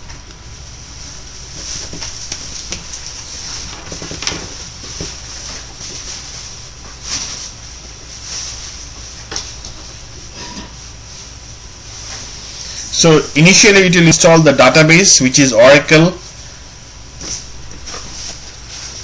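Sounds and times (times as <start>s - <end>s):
background hiss: 0.0s - 19.0s.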